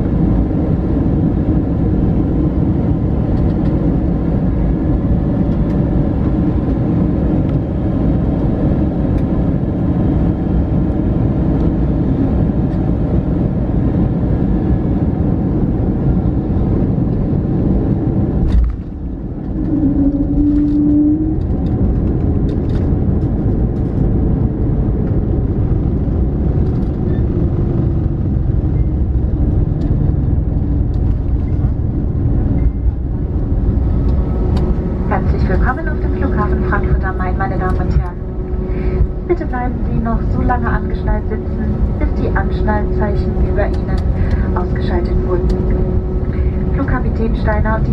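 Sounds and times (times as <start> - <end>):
airplane cabin rumble: 0.0 - 47.9
faint engine whine: 0.0 - 47.9.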